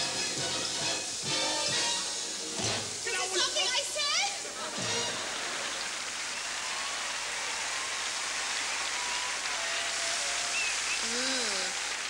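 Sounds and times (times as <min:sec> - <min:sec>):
shower water spraying: 0:00.0 - 0:12.0.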